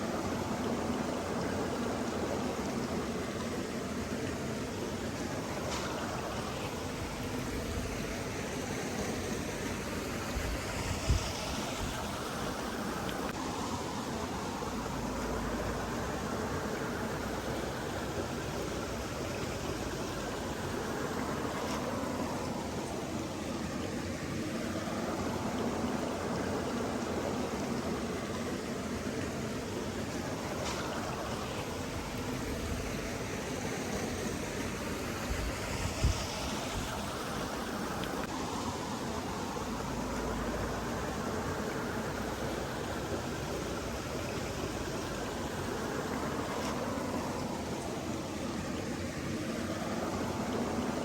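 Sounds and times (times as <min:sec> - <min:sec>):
running water rushing: 0:00.0 - 0:51.0.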